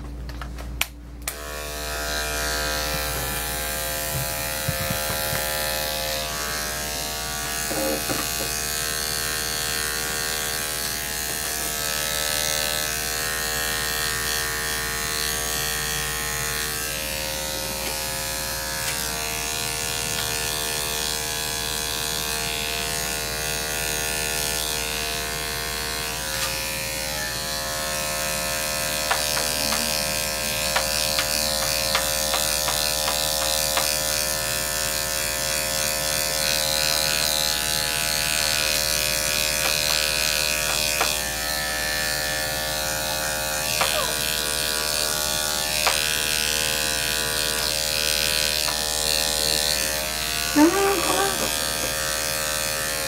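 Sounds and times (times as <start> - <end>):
electric clippers running: 0.8 - 53.0.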